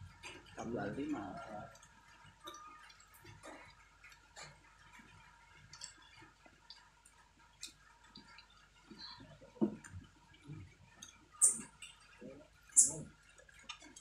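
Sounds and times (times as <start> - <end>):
small clicks from eating and drinking: 0.0 - 14.0.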